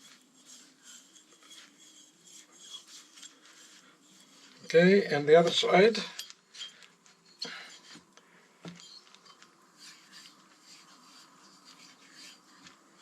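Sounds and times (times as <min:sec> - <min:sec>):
rag rubbing inside cylinder: 0:00.0 - 0:08.1, 0:08.7 - 0:13.0.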